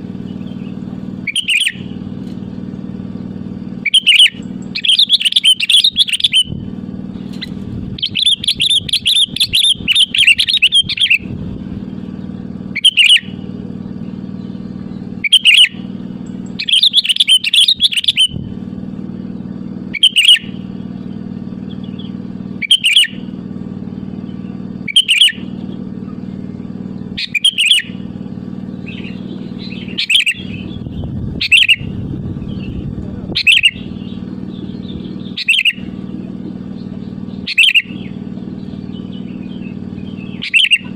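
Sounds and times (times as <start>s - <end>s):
bulbul singing: 0.0s - 40.9s
steady low hum: 0.0s - 40.9s.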